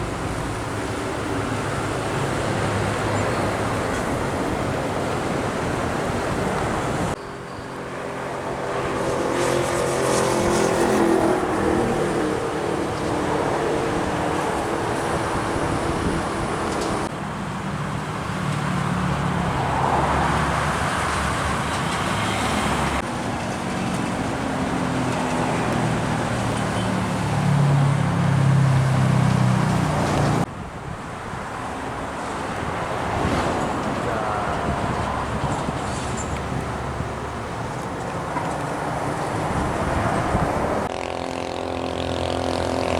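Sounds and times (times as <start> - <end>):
heavy trucks passing: 0.0 - 42.9.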